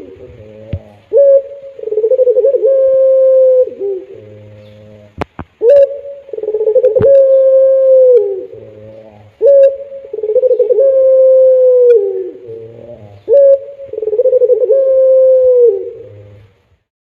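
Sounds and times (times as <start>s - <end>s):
dove cooing loudly: 0.0s - 16.6s.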